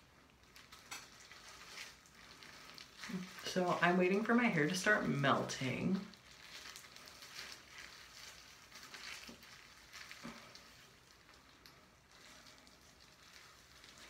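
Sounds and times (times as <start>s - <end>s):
rubber glove rustling in hair: 0.2s - 14.0s.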